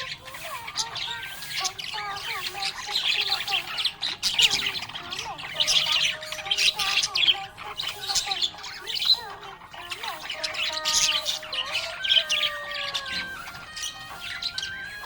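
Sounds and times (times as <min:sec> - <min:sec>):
budgerigar chirping and squawking: 0:00.0 - 0:15.0
budgerigar whistled notes: 0:00.0 - 0:15.0.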